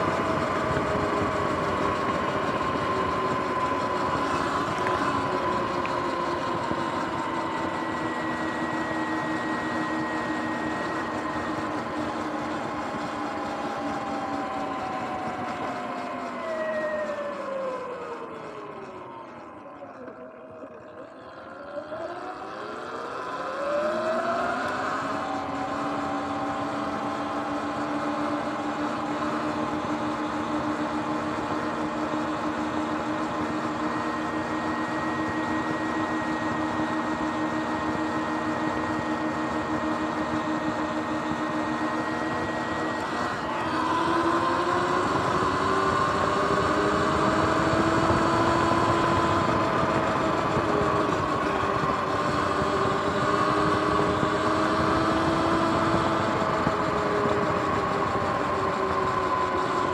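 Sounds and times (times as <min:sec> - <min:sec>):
electric motor whining: 0:00.0 - 0:59.9
road and wind noise: 0:00.0 - 0:59.9.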